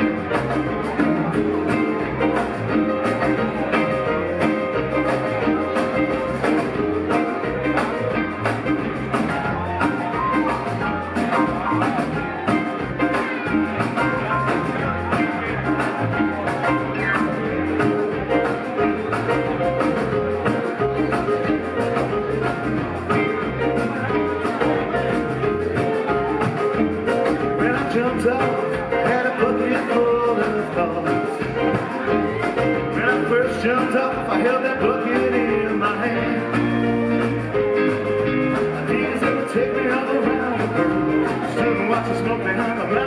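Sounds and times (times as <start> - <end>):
bass guitar: 0.0 - 43.0
drums: 0.0 - 43.0
electric guitar: 0.0 - 43.0
keyboards: 0.0 - 43.0.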